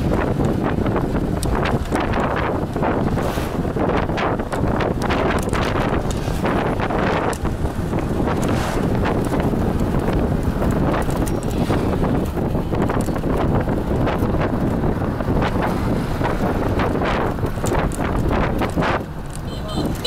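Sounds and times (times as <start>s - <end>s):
low road rumble: 0.0s - 20.0s
wind buffeting microphone: 0.0s - 20.0s.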